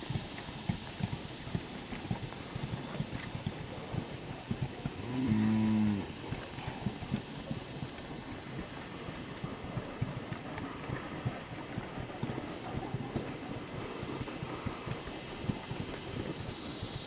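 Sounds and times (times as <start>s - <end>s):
hooves on dirt: 0.0s - 17.0s.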